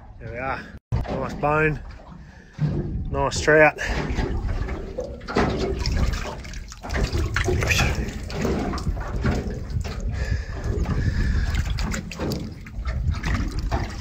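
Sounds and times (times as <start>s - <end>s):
water sloshing and dripping: 0.0s - 14.0s
short splashes: 0.9s - 14.0s.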